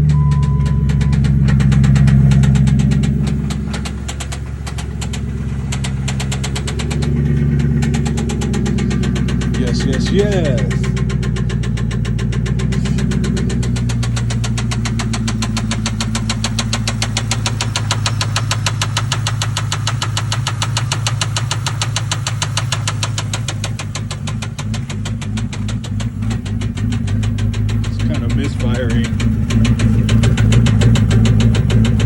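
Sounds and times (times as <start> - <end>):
engine idling with rapid ticking: 0.0 - 32.0.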